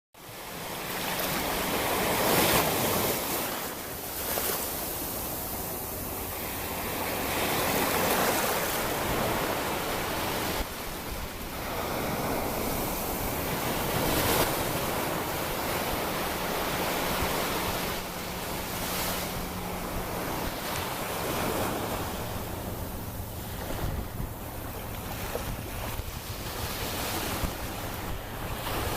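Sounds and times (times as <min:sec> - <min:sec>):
ocean waves breaking: 0:00.2 - 0:28.9.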